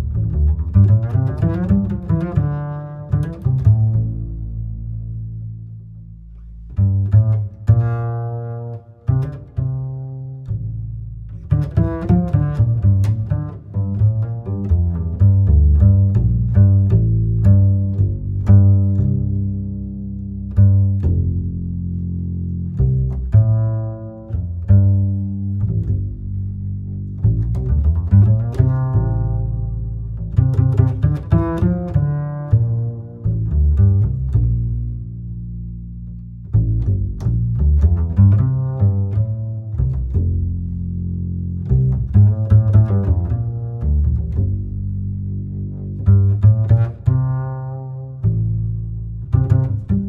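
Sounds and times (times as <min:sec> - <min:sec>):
instrumental music with deep bass: 0:00.0 - 0:50.0.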